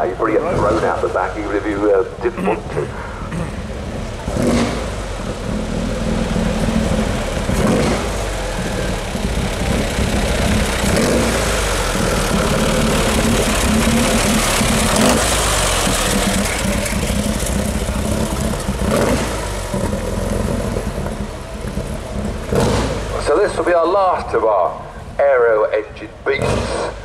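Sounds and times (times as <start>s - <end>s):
racing car engine driving past: 3.3s - 25.2s.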